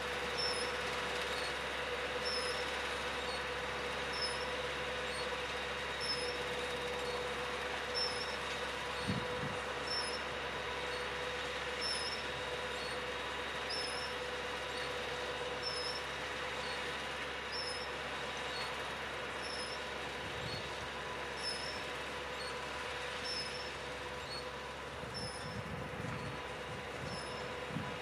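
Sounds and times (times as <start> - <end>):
tractor engine drone: 0.0 - 28.0.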